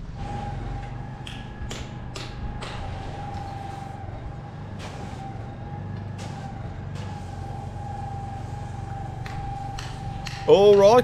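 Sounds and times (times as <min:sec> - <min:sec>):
engine running with whine: 0:00.0 - 0:11.0.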